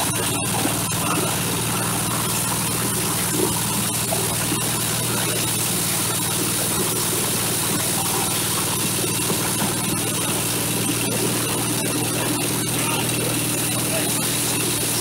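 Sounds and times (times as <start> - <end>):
corn sheller machine droning: 0.0 - 15.0.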